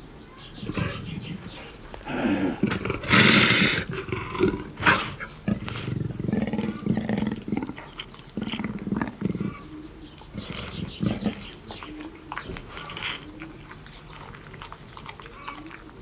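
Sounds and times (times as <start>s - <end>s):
big cat roaring: 0.6s - 15.9s.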